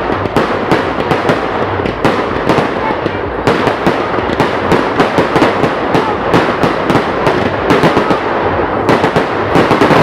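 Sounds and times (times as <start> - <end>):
firework bangs: 0.0 - 10.0
firework crackle: 0.0 - 10.0.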